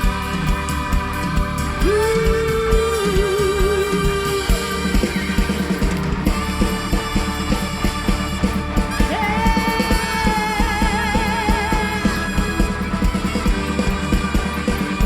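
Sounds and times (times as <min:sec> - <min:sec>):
busy drumbeat: 0:00.0 - 0:15.0
live band playing: 0:00.0 - 0:15.0.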